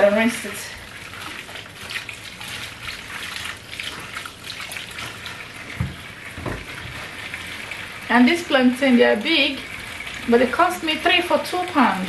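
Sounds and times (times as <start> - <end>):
water splashing: 0.0 - 12.0
tap water running into sink: 0.8 - 12.0.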